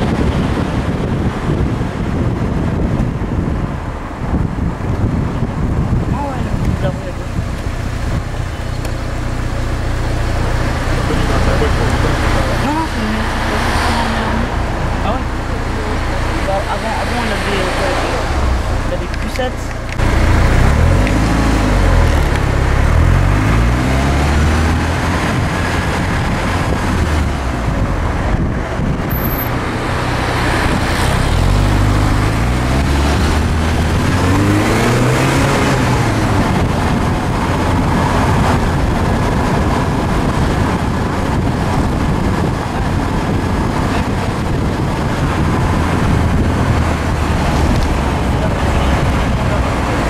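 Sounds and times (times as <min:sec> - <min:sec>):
car engine accelerating: 0:00.0 - 0:50.0
road and wind noise: 0:00.0 - 0:50.0.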